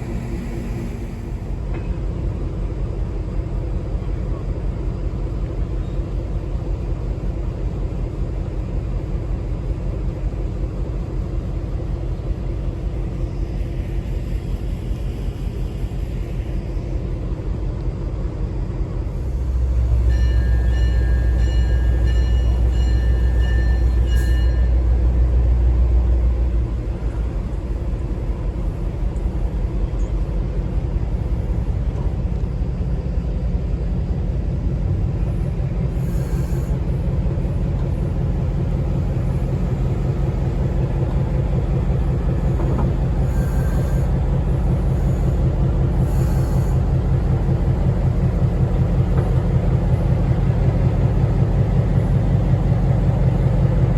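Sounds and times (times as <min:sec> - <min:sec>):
train rumbling: 0:00.0 - 0:53.9.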